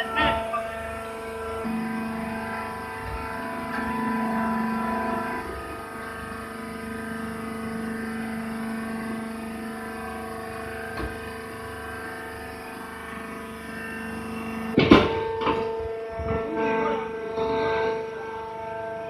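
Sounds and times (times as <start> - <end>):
hydraulic press motor humming: 0.0 - 19.0.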